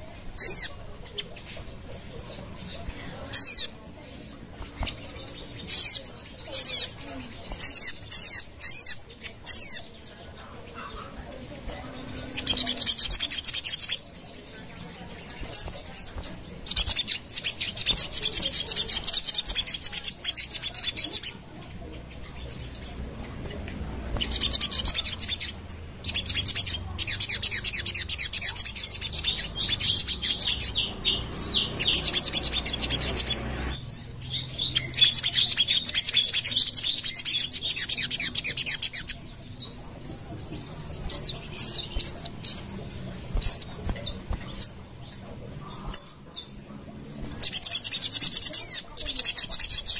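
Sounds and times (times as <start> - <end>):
songbird chirping and twittering: 0.0 - 49.9.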